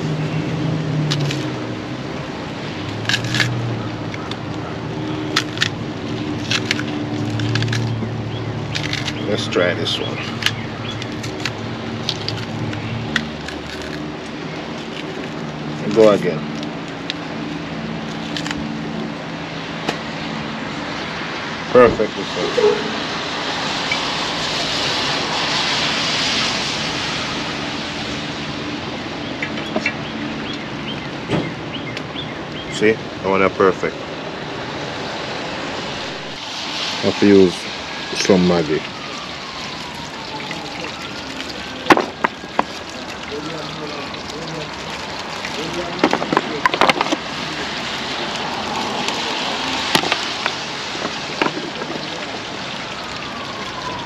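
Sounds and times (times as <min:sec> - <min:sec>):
rain pattering: 0:00.0 - 0:31.3, 0:31.9 - 0:54.0
vehicle passing: 0:00.0 - 0:54.0.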